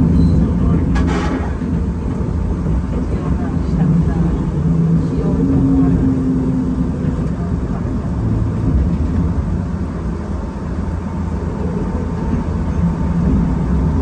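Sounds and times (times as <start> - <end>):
electric train rumbling on rails: 0.0 - 14.0.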